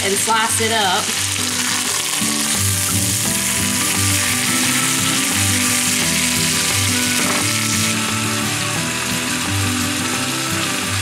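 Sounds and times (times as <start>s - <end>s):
potatoes and onions frying: 0.0s - 11.0s
steak sizzling in a skillet: 0.0s - 11.0s
spatula turning meat: 1.2s - 11.0s.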